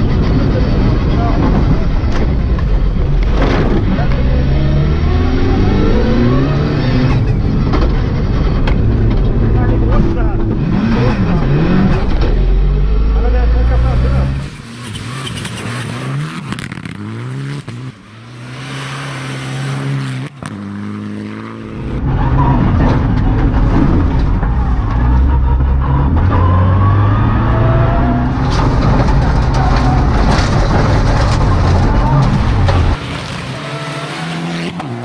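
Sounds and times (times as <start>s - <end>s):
rally car engine revving: 0.0s - 35.0s
road noise inside car: 0.0s - 35.0s.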